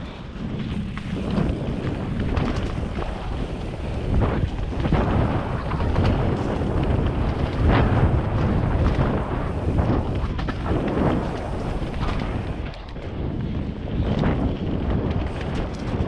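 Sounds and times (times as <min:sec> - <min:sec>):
bike knocking and rattling: 0:00.0 - 0:16.0
tyres rumbling on dirt trail: 0:00.0 - 0:16.0
wind buffeting microphone: 0:00.0 - 0:16.0.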